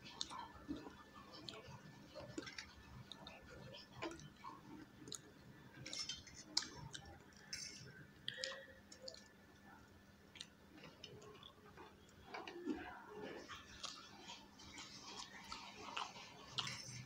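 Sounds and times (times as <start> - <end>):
chewing and slurping: 0.0 - 17.0.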